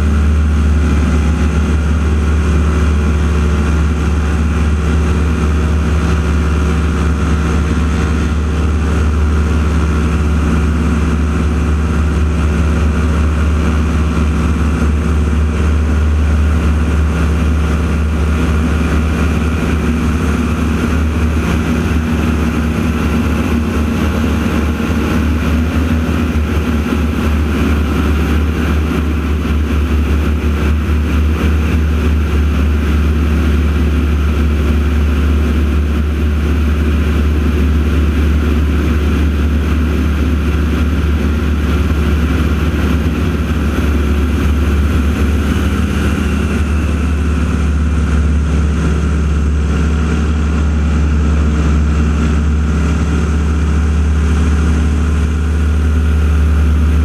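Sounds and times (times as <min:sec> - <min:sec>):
airplane radial engines droning: 0:00.0 - 0:57.0.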